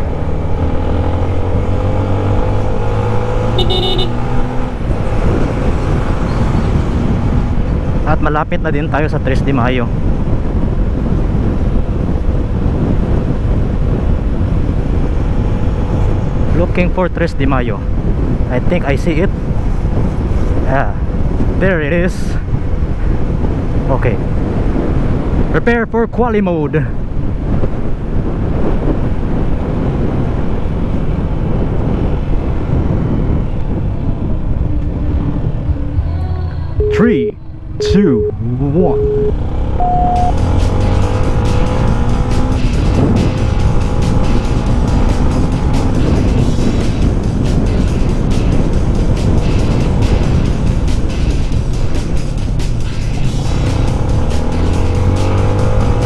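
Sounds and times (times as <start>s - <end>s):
motorcycle engine drone: 0.0s - 16.7s, 27.1s - 56.0s
wind buffeting microphone: 0.0s - 26.2s, 26.8s - 36.8s, 38.4s - 56.0s.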